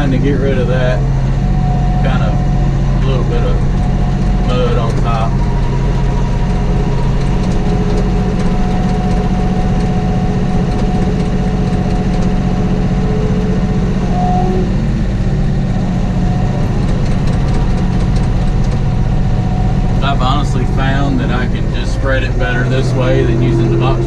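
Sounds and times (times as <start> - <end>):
thin steady whine: 0.0 - 24.0
tractor diesel engine running: 0.0 - 24.0.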